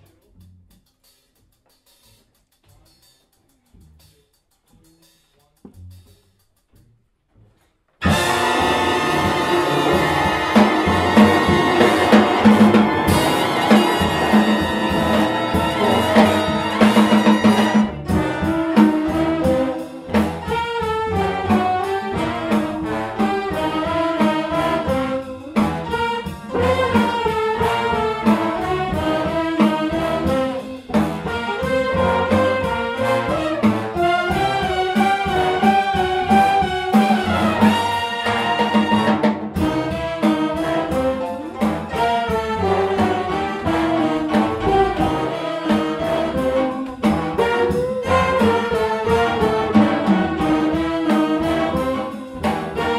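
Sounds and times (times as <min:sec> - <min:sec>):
jazz big band playing: 0:08.0 - 0:52.9.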